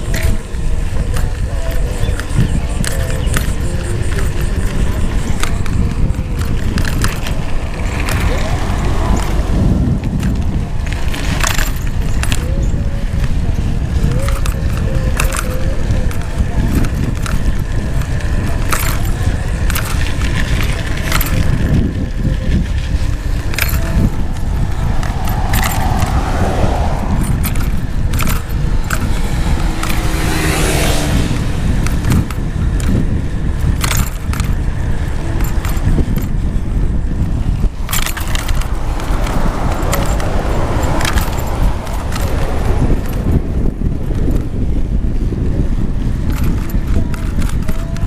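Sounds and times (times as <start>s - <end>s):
bicycle rattles and clinks: 0.0s - 48.0s
wind buffeting microphone: 0.0s - 48.0s.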